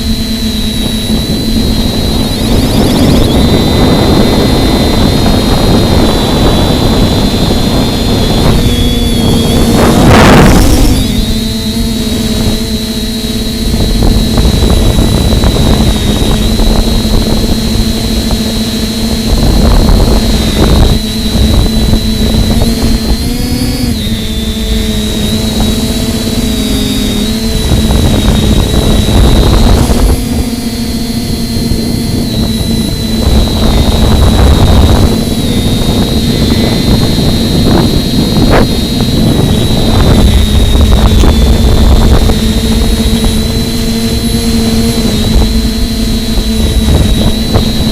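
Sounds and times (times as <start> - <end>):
model plane motor whining: 0.0 - 47.9
wind buffeting microphone: 0.0 - 47.9.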